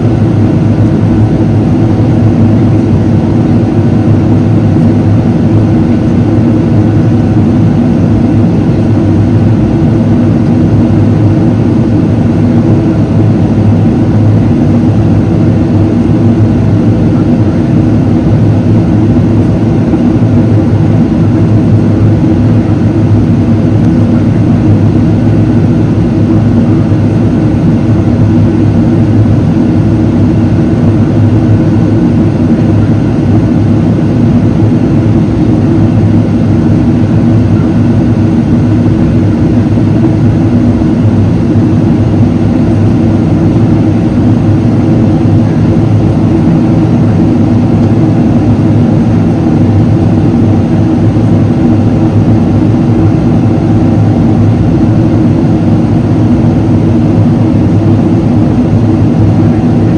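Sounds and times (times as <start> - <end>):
airplane cabin engine drone: 0.0 - 59.9
steady hum tones: 0.0 - 59.9.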